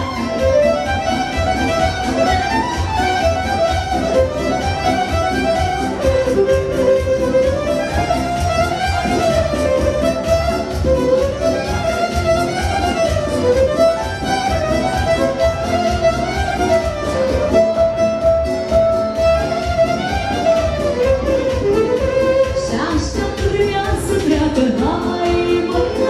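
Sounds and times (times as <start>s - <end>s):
folk dance music with violin: 0.0s - 26.0s.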